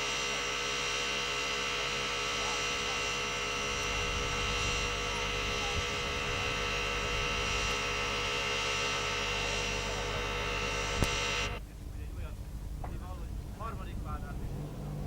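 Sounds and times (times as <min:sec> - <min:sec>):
steady hum of fixed tones: 0:00.0 - 0:15.0.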